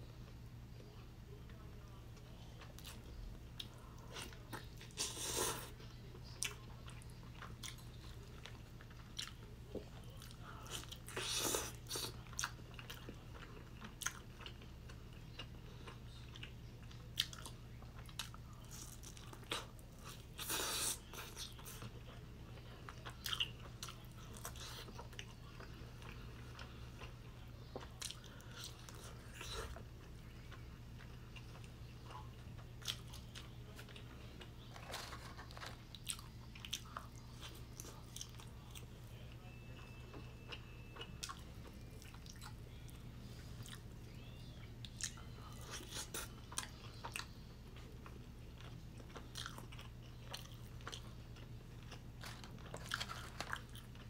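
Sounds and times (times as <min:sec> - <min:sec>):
low steady hum: 0:00.0 - 0:54.0
crunchy chewing of fried chicken: 0:00.1 - 0:54.0.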